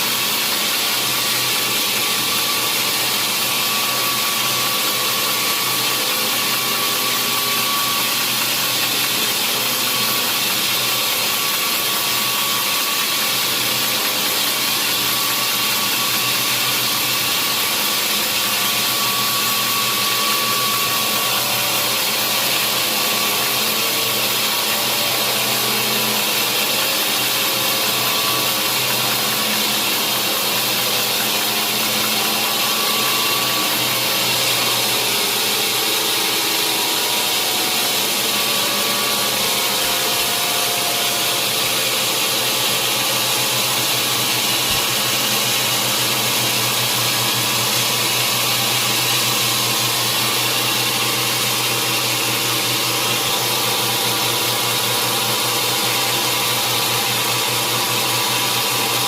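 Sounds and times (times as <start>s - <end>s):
sawmill machinery hissing: 0.0s - 59.0s.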